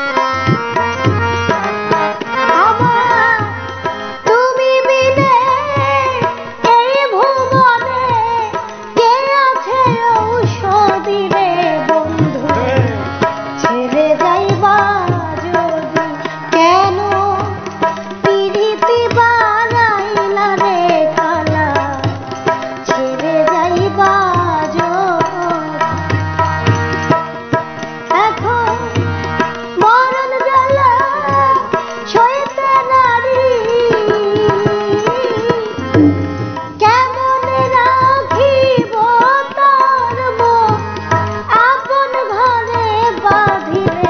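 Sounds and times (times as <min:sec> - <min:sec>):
woman singing: 0:00.0 - 0:26.3, 0:28.1 - 0:44.0
harmonium: 0:00.0 - 0:44.0
tabla rhythm: 0:00.0 - 0:44.0.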